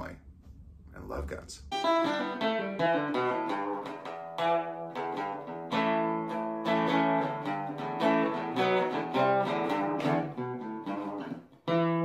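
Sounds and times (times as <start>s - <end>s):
acoustic guitar strumming: 1.7s - 12.0s.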